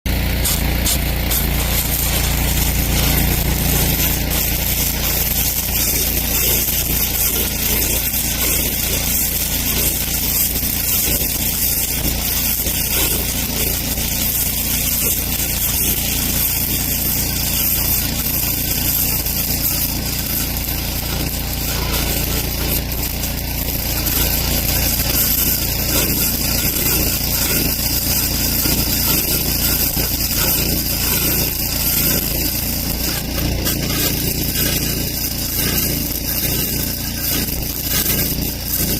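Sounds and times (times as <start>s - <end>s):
welding arc hissing: 0.1s - 38.9s.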